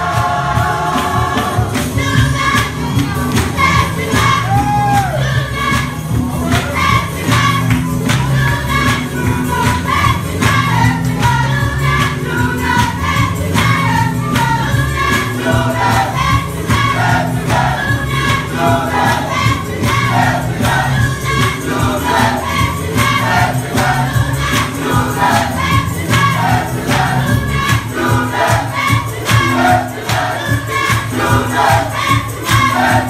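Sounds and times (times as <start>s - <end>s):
gospel choir singing: 0.0s - 33.0s
instrumental accompaniment with beat: 0.0s - 33.0s.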